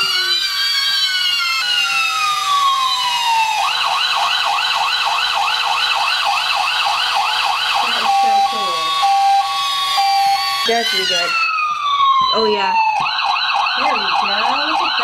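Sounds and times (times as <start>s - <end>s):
electronic toy police siren: 0.0s - 15.0s.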